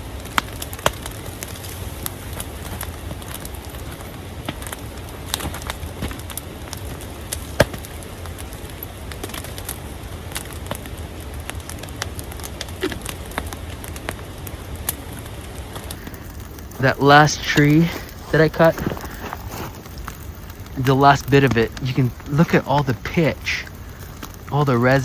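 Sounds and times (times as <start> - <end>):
campfire crackling: 0.0 - 25.0
sharp pops from burning wood: 0.0 - 25.0.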